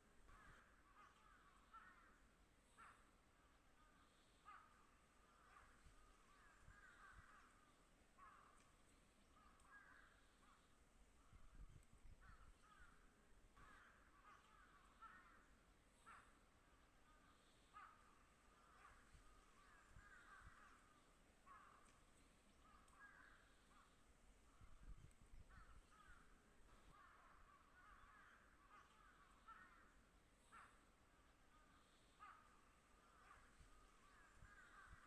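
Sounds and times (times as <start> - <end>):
crows cawing: 0.2 - 3.1, 3.8 - 11.4, 12.2 - 24.9, 25.5 - 35.0.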